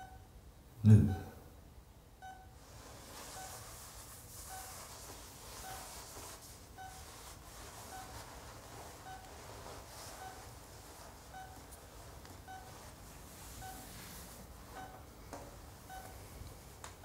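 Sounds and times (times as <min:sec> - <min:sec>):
patient monitor beeping: 0:00.0 - 0:00.3, 0:01.0 - 0:01.4, 0:02.2 - 0:03.8, 0:04.4 - 0:17.0
rustling: 0:02.6 - 0:17.0.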